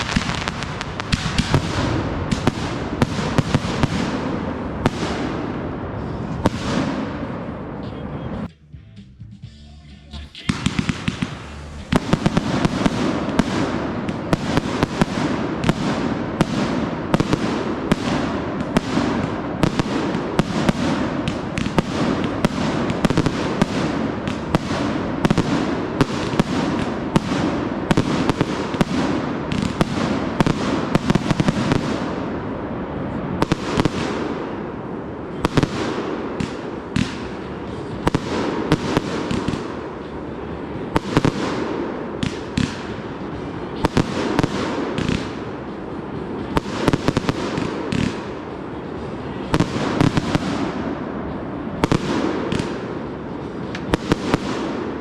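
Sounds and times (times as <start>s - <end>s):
fireworks banging: 0.0s - 8.6s, 10.1s - 55.0s.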